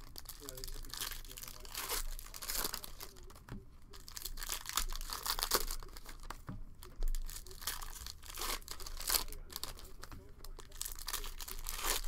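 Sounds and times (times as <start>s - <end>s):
plastic wrappers crinkling and tearing: 0.0s - 12.0s.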